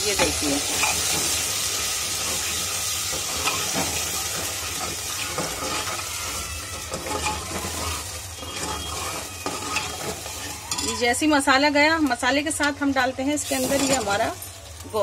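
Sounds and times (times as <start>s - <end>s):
paste sizzling in ghee: 0.0s - 15.0s
metal ladle scraping pan: 0.1s - 11.2s, 13.4s - 14.4s.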